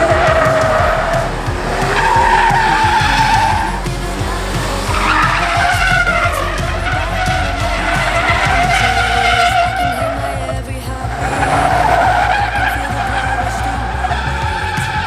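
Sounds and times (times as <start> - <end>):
engine working hard: 0.0 - 15.0
tyres squealing: 0.0 - 15.0.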